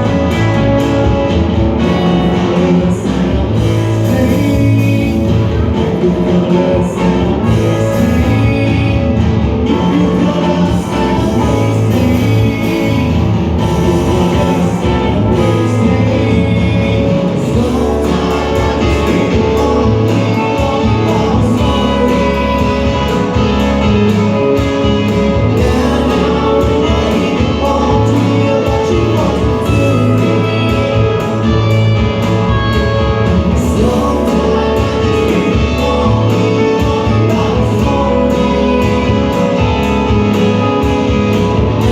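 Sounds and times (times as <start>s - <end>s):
bass guitar: 0.0s - 41.9s
drum kit: 0.0s - 41.9s
electric guitars: 0.0s - 41.9s
person singing: 0.0s - 41.9s.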